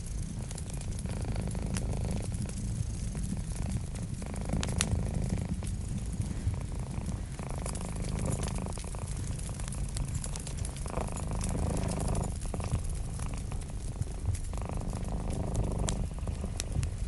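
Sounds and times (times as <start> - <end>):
cat purring: 0.0 - 17.0
wood fire crackling and popping: 0.0 - 17.0.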